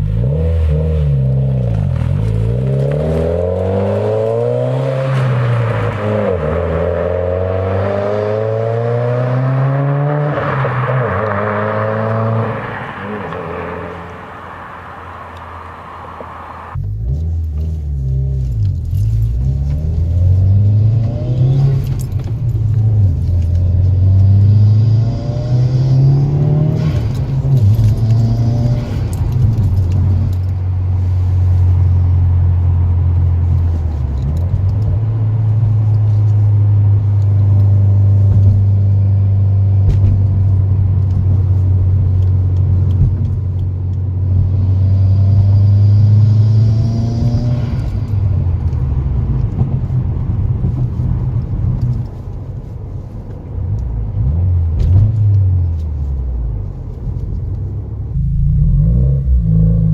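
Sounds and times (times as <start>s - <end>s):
car engine drone revving: 0.0s - 59.9s.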